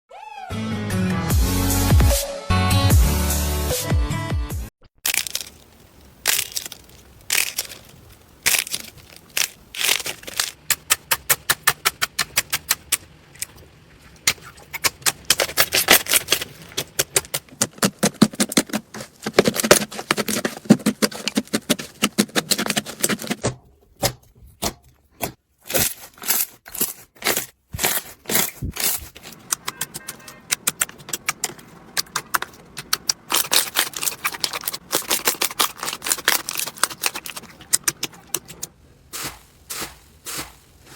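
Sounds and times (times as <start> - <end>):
slime crackling and popping: 5.0 - 13.5, 14.2 - 23.5, 25.7 - 40.9.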